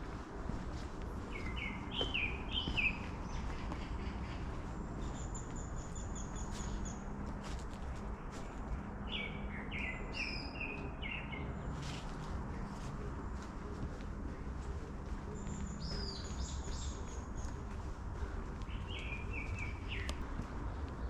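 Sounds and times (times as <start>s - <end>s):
low background hum: 0.0s - 21.0s
songbirds trilling and chirping: 0.0s - 21.0s.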